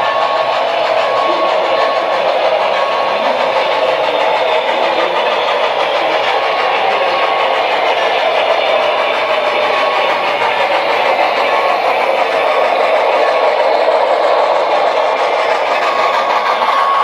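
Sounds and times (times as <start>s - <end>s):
model train steam sounds: 0.0s - 17.0s.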